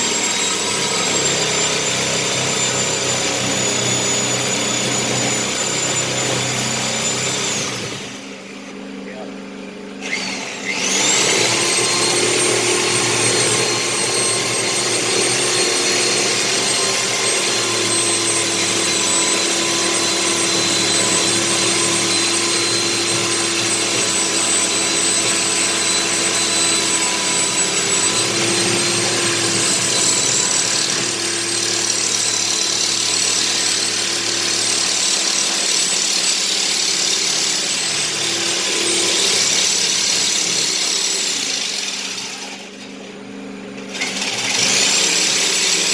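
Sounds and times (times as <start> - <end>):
power tool whining under load: 0.0 - 45.9.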